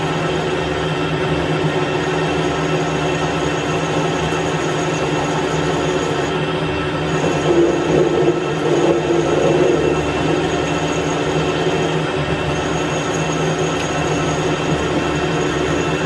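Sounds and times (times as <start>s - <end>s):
lathe tool cutting steel: 0.0s - 16.0s
metal lathe running: 0.0s - 16.0s.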